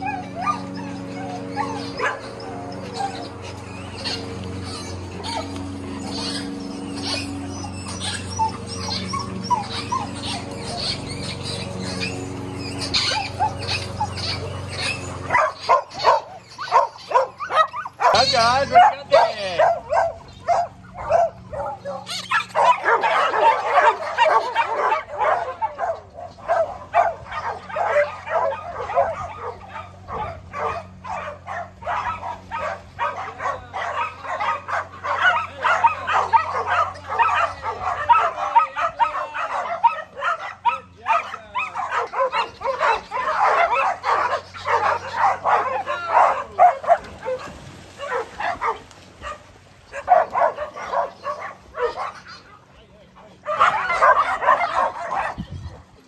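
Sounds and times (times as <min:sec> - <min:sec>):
dogs barking and yipping: 0:00.0 - 0:56.0.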